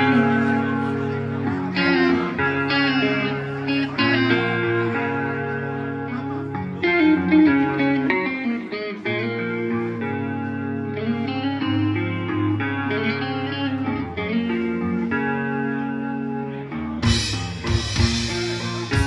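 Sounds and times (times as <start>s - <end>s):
electric guitars sustained notes: 0.0s - 19.0s
live metal band playing: 0.0s - 19.0s.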